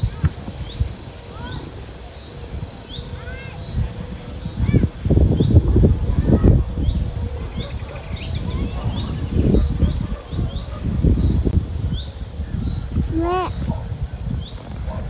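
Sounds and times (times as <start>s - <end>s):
high insect whine: 0.0s - 15.0s
small birds chirping: 0.0s - 15.0s
wind buffeting microphone: 0.0s - 15.0s.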